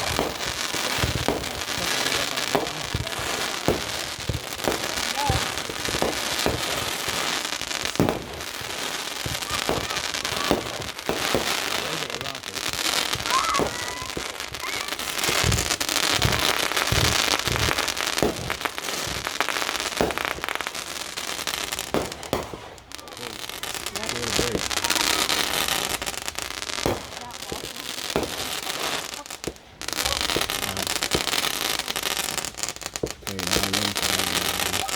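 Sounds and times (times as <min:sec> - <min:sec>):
fireworks booms: 0:00.0 - 0:34.9
fireworks crackling: 0:00.0 - 0:34.9.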